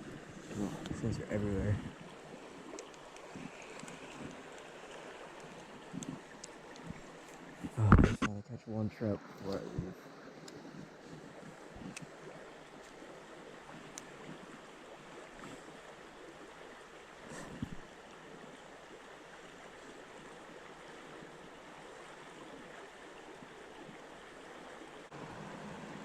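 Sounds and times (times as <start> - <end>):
river rushing: 0.0 - 7.8, 9.2 - 26.0.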